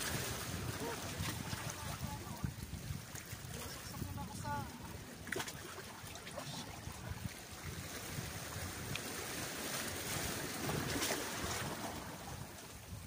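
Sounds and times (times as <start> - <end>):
waves washing against rocks: 0.0 - 13.0
wind rumbling on microphone: 0.0 - 13.0.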